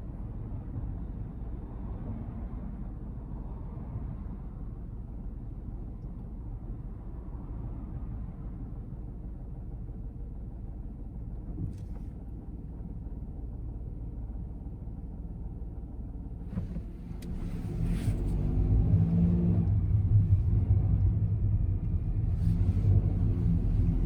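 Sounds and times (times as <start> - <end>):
car engine rumbling and accelerating: 0.0 - 24.0.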